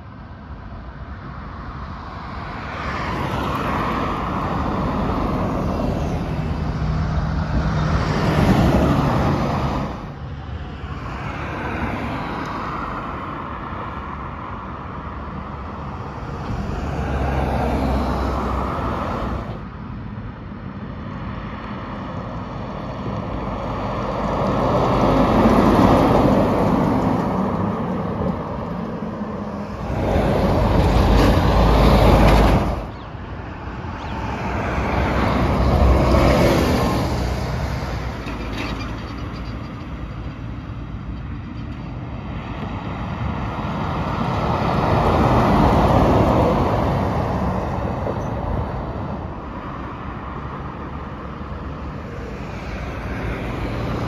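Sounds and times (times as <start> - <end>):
heavy trucks driving past: 1.6 - 54.0.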